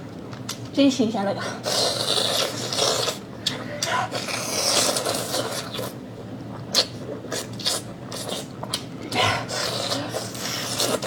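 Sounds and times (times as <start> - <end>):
slurping and chewing: 1.6 - 11.0.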